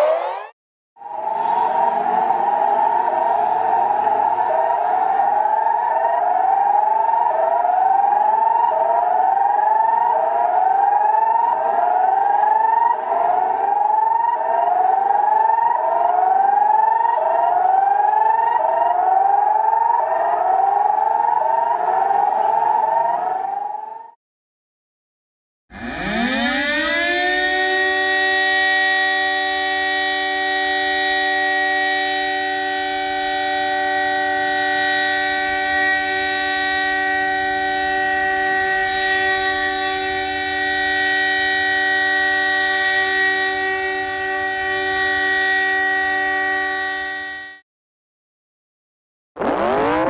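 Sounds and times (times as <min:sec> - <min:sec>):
civil defense warning siren: 0:00.0 - 0:24.2, 0:25.7 - 0:47.6, 0:49.4 - 0:50.0.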